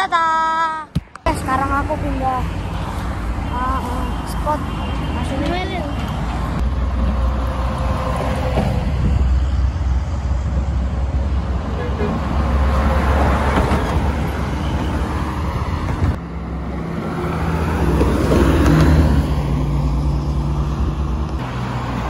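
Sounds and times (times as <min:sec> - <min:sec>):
buses driving past: 0:00.0 - 0:22.0.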